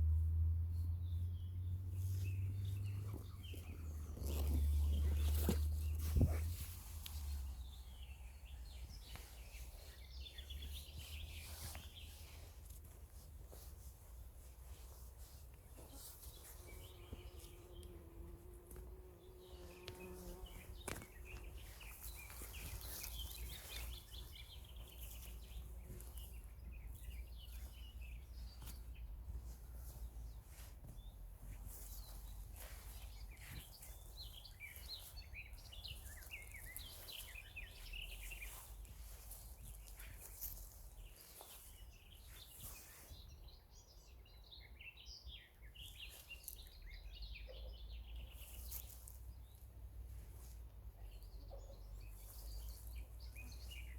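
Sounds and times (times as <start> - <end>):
songbirds chirping and twittering: 0.0 - 53.9.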